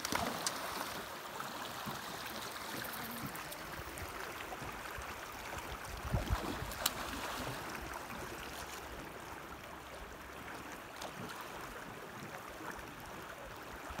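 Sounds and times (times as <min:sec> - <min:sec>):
river current flowing and lapping: 0:00.0 - 0:14.0.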